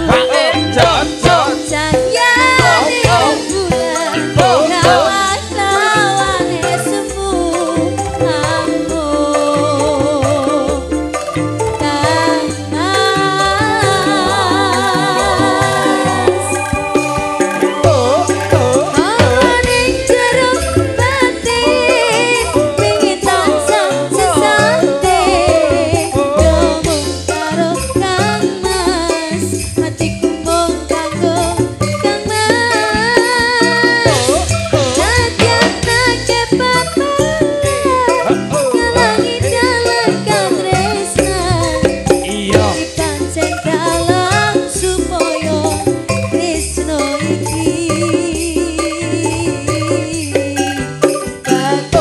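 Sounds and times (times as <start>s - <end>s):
woman singing with vibrato: 0.0s - 11.1s, 11.7s - 52.0s
live band playing: 0.0s - 52.0s.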